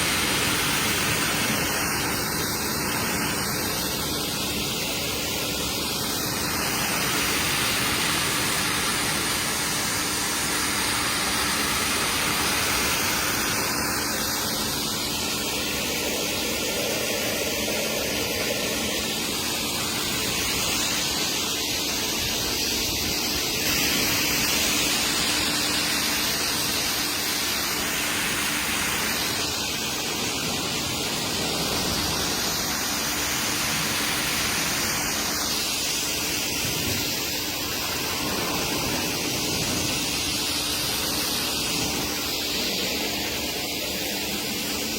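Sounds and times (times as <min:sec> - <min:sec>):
pressure washer spraying water: 0:00.0 - 0:44.9.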